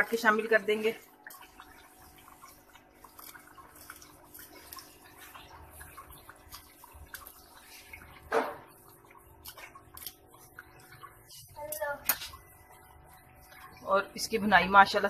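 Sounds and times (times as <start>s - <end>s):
food sizzling and bubbling in pot: 0.0s - 15.0s.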